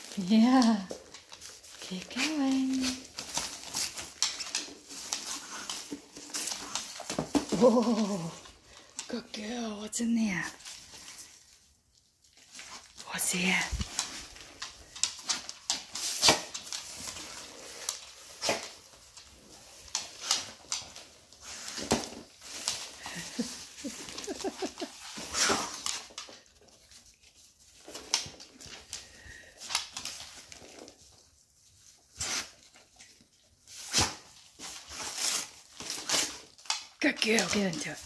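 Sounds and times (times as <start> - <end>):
dog tearing wrapping paper: 0.0 - 9.1, 10.4 - 38.0.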